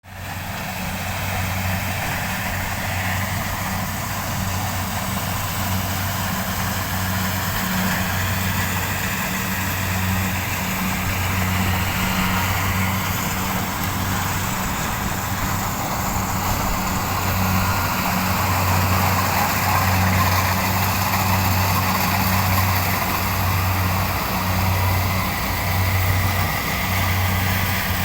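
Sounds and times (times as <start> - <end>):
combine harvester engine hum: 0.0 - 28.0.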